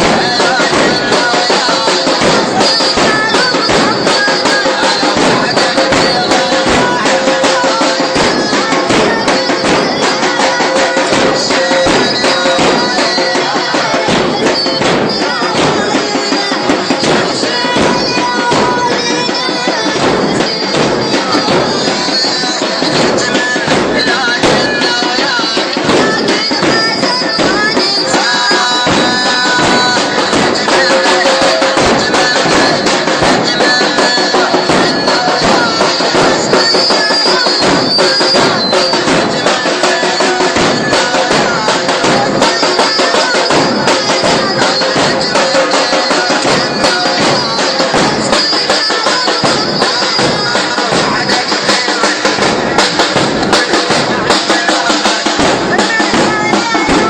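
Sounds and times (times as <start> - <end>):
rapid rhythmic beating: 0.0 - 57.0.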